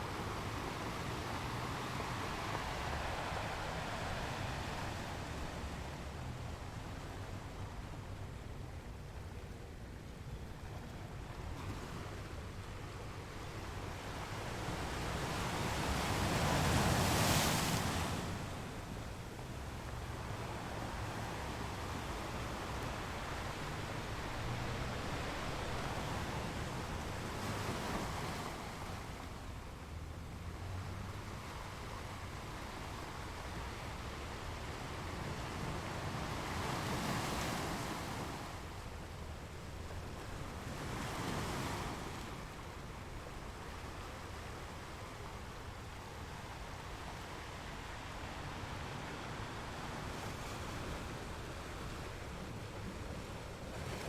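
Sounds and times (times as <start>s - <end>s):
ocean waves on shore: 0.0s - 54.0s.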